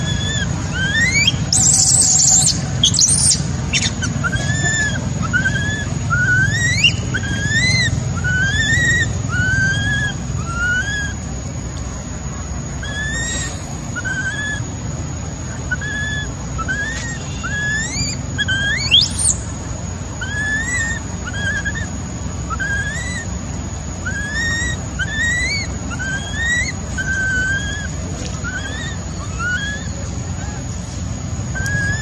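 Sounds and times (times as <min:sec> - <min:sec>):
monkey squeal: 0:00.0 - 0:11.2, 0:12.8 - 0:14.7, 0:15.6 - 0:19.4, 0:20.2 - 0:23.2, 0:24.0 - 0:30.7, 0:31.6 - 0:32.0
infant monkey coo calls: 0:00.0 - 0:32.0.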